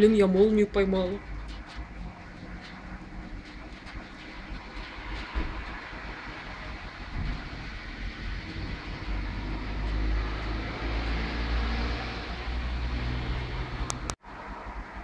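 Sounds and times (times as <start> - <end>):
thunder rumbling: 0.0 - 13.9.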